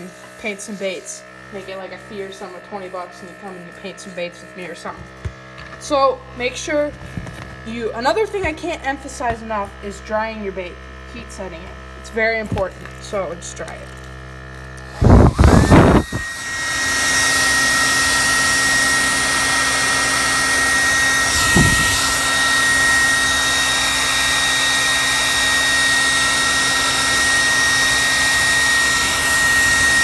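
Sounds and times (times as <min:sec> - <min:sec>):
hot-air dryer blowing: 0:00.0 - 0:30.0.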